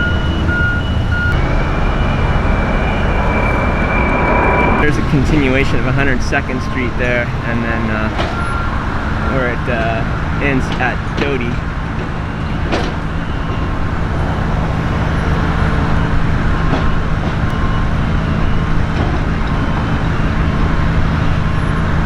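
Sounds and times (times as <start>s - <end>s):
traffic and tyres rumbling: 0.0s - 22.0s.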